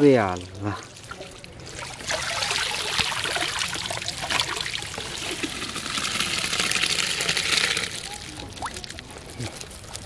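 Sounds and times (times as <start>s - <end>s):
water trickling and streaming: 0.0s - 10.0s.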